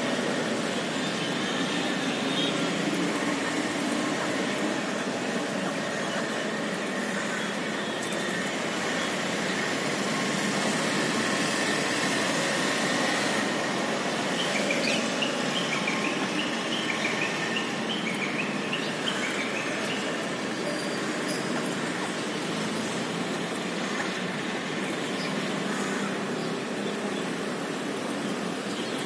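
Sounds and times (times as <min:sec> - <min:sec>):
city traffic hum: 0:00.0 - 0:29.0.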